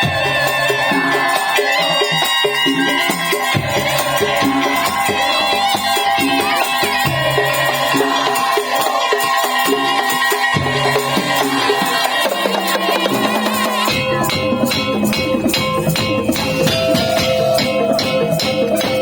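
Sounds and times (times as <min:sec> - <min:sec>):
drums and wooden percussion: 0:00.0 - 0:19.0
wavering high melody: 0:00.0 - 0:19.0.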